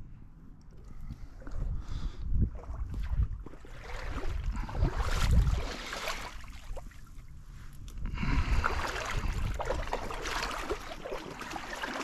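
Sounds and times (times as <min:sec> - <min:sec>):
wind buffeting microphone: 0:00.8 - 0:11.5.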